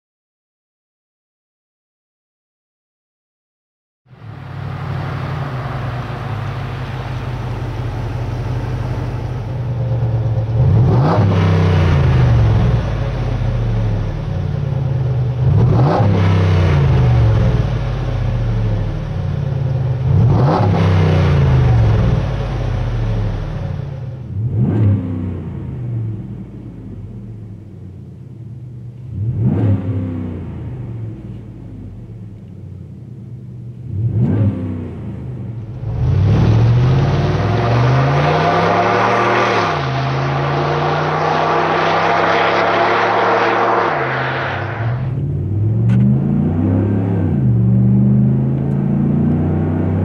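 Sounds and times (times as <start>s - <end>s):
truck engine idling and revving: 4.1s - 50.0s.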